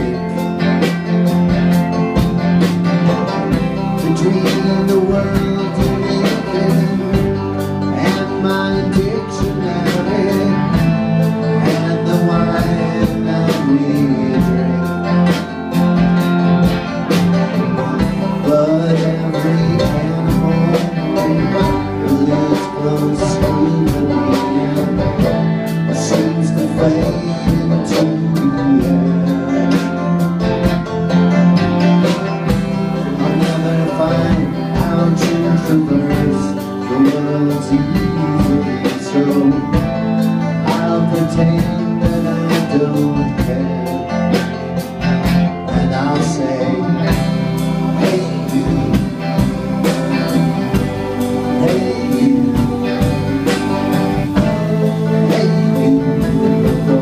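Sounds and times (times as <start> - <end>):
banjo: 0.0 - 57.0
bass: 0.0 - 57.0
electric guitar: 0.0 - 57.0
steady drum beat: 0.0 - 57.0.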